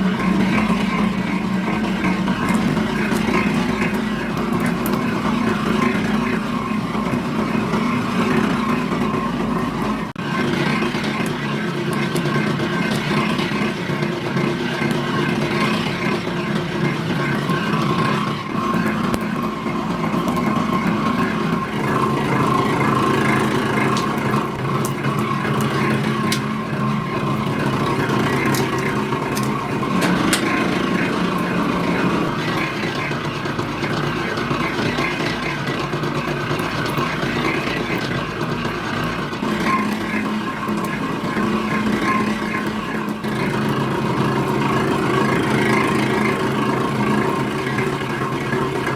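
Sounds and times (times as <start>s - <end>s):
factory machinery humming: 0.0s - 48.9s.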